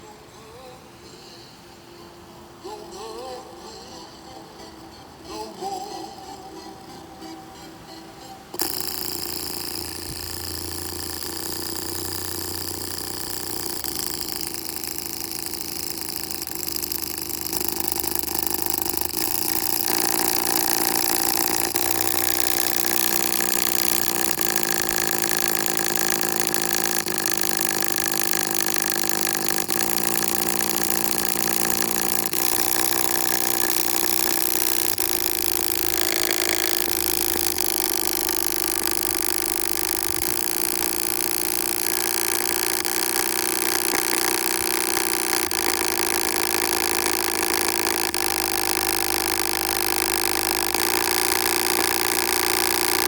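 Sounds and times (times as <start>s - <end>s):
engine running: 8.5s - 53.0s.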